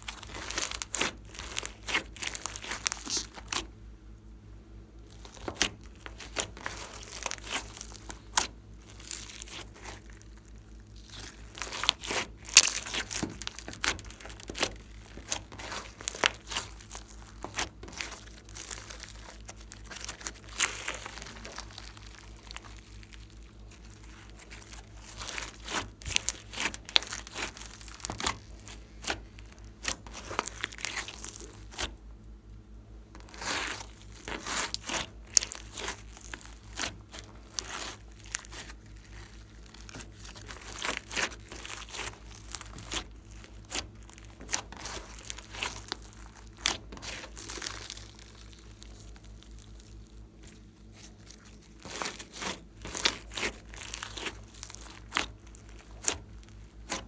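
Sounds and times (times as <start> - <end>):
slime crackling and popping: 0.0 - 3.8, 5.0 - 57.0.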